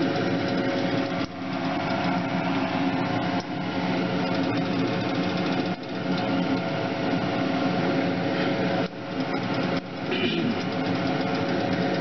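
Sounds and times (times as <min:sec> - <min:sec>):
exhaust fan motor hum: 0:00.0 - 0:12.0.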